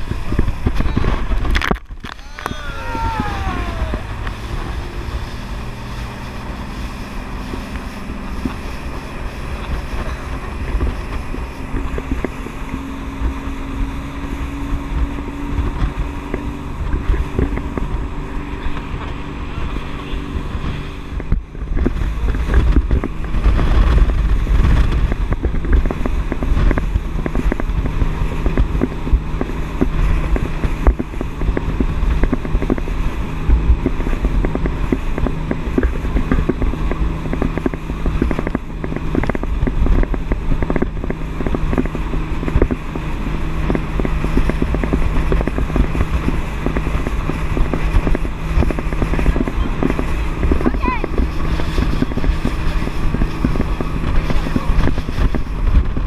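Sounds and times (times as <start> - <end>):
speedboat engine droning: 0.0 - 56.0
water rushing past hull: 0.0 - 56.0
wind on microphone: 0.0 - 56.0.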